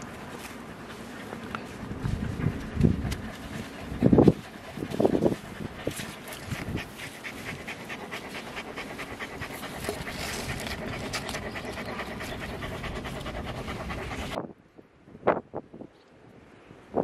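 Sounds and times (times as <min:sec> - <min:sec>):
dog panting: 0:00.0 - 0:14.4.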